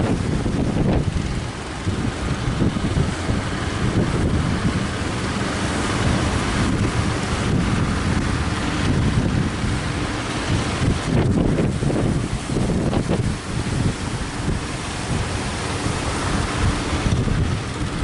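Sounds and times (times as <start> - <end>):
sea waves breaking: 0.0 - 18.0
wind buffeting microphone: 0.0 - 18.0.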